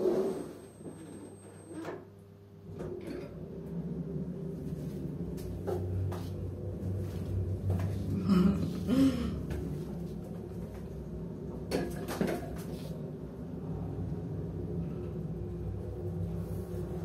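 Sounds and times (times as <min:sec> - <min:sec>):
elevator low hum: 0:00.0 - 0:17.0.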